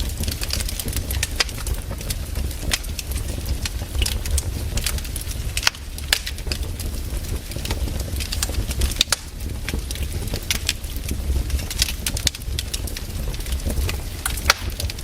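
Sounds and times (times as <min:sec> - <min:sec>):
burning logs crackling and popping: 0:00.0 - 0:15.0
wood fire rumble: 0:00.0 - 0:15.0.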